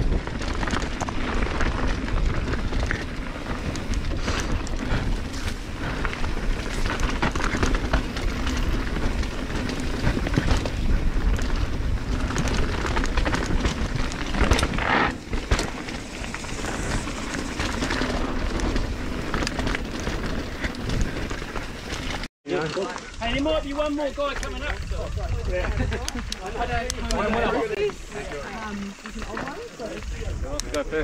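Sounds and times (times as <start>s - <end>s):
wind buffeting microphone: 0.0s - 22.3s, 23.2s - 31.0s
bike tyres rumbling over dirt: 0.0s - 31.0s.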